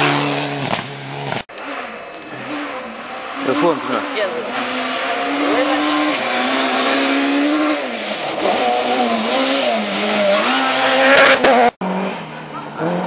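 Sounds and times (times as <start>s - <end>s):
gravel and tyre noise: 0.0s - 13.0s
rally car engine revving: 0.0s - 13.0s.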